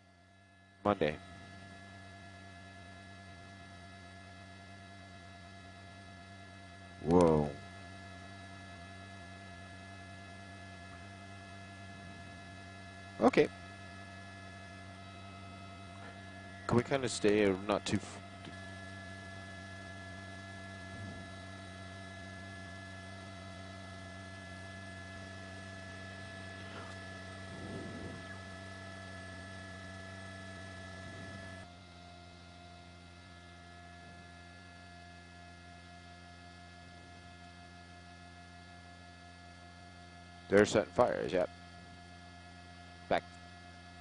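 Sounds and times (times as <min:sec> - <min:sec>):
electrical hum: 0:00.0 - 0:44.0.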